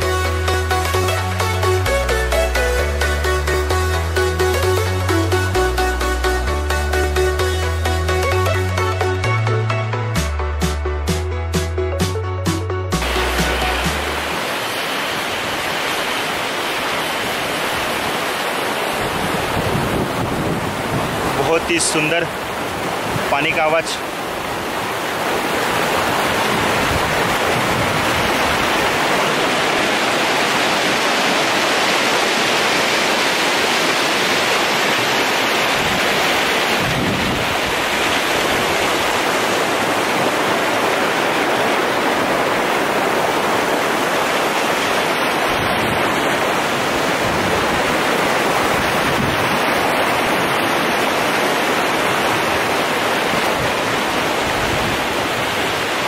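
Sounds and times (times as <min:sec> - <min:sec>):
stream rushing over rocks: 0:00.0 - 0:09.2, 0:13.0 - 0:56.0.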